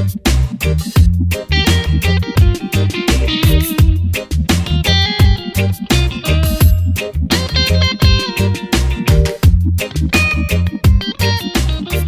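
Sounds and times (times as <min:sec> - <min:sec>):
reggae band music: 0:00.0 - 0:12.0.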